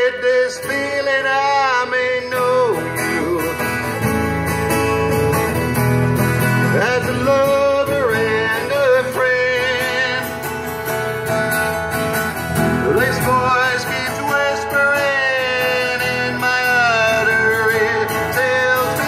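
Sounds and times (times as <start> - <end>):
two acoustic guitars playing: 0.0 - 19.0.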